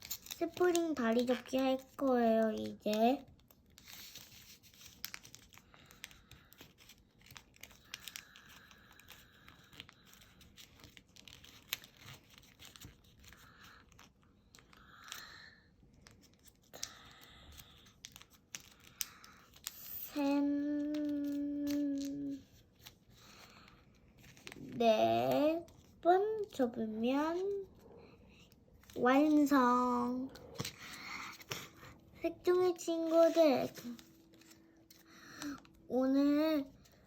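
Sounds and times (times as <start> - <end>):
paper rustling and crinkling: 0.0 - 37.0.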